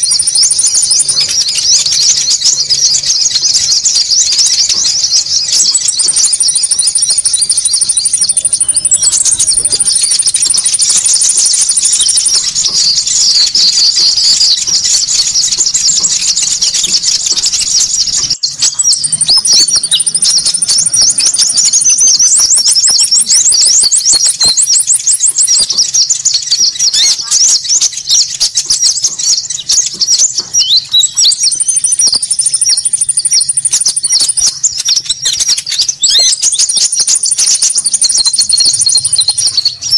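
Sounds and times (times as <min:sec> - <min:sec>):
fast high bird trill: 0:00.0 - 0:39.9
songbirds chirping and twittering: 0:00.0 - 0:39.9.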